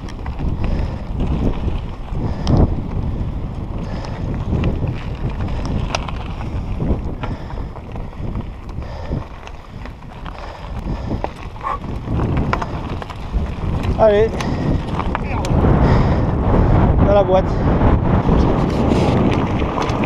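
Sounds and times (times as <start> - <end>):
bike tyres crunching on gravel: 0.0 - 16.8, 18.0 - 20.0
wind buffeting microphone: 0.0 - 20.0.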